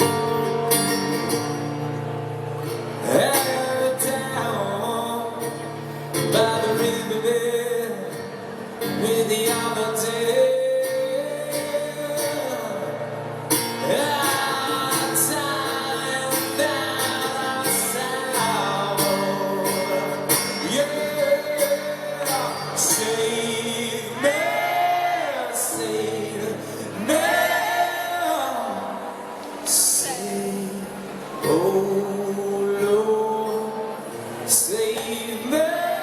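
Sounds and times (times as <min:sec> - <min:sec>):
acoustic guitar: 0:00.0 - 0:36.0.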